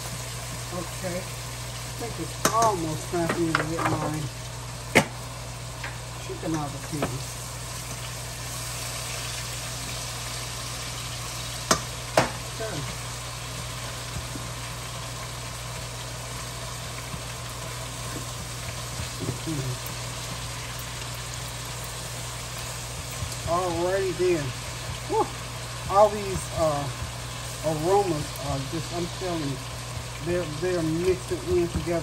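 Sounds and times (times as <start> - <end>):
meat and onions sizzling in a skillet: 0.0 - 32.0.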